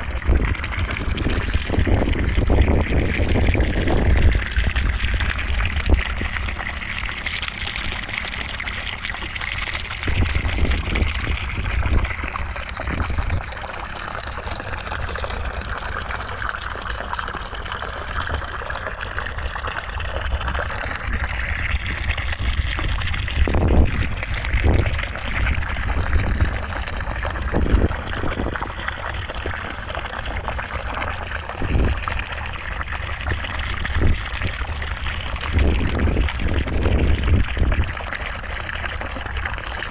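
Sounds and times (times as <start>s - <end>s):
deep rumble: 0.0s - 16.1s, 18.8s - 38.0s.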